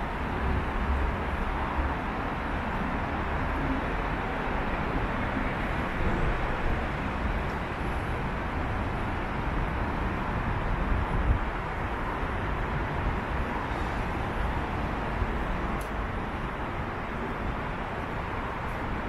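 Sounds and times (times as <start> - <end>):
city traffic rumble and hiss: 0.0 - 19.0.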